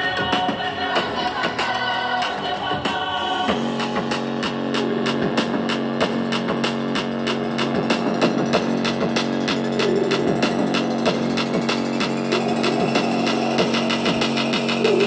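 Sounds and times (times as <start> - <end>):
music from a small speaker: 0.0 - 15.0.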